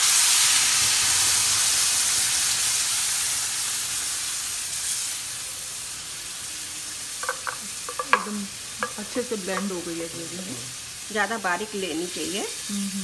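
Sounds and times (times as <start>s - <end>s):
paste sizzling in hot oil: 0.0s - 12.7s.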